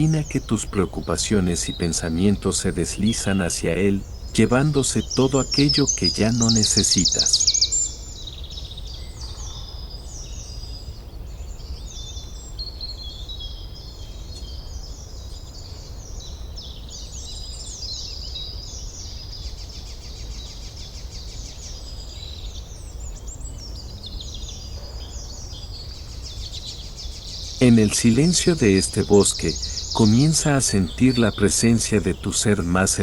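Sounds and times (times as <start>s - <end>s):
songbirds singing: 0.0s - 33.0s.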